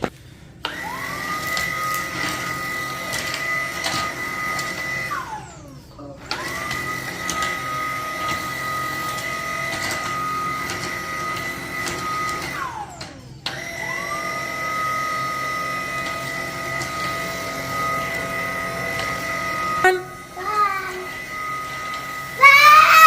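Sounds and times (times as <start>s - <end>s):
vacuum cleaner motor whining: 0.0s - 23.0s.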